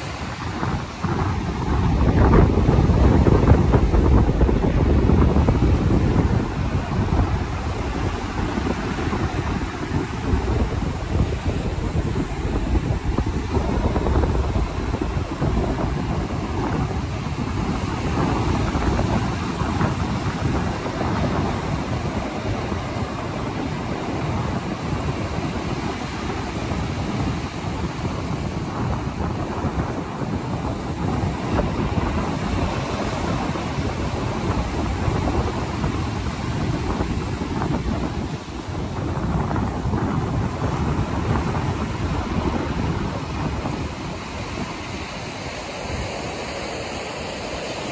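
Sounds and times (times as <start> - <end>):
surf breaking on beach: 0.0 - 47.9
wind buffeting microphone: 0.0 - 47.9.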